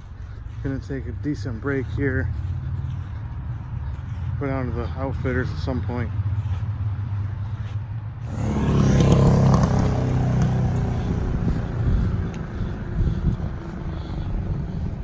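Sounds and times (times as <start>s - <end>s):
road vehicle passing by: 0.0s - 15.0s.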